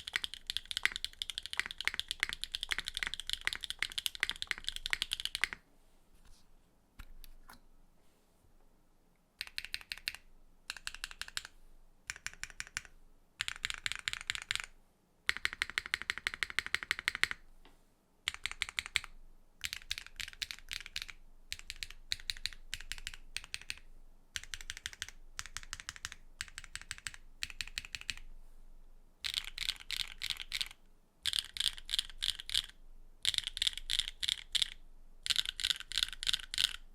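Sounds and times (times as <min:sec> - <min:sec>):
typing on mechanical keyboard: 0:00.0 - 0:05.6, 0:09.4 - 0:11.5, 0:12.1 - 0:17.4, 0:18.3 - 0:28.3, 0:29.2 - 0:36.8.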